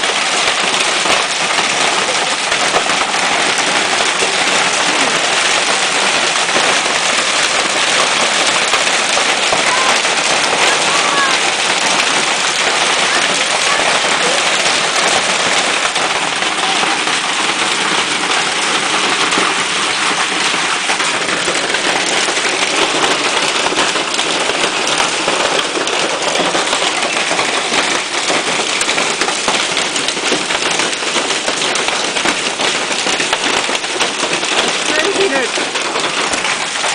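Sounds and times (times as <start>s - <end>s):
hailstones falling: 0.0s - 36.9s.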